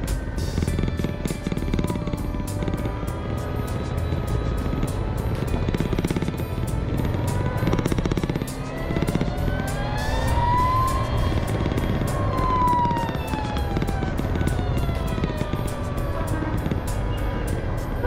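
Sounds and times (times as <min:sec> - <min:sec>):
motorcycle engine whine: 0:00.0 - 0:18.0
wind and road rumble: 0:00.0 - 0:18.0.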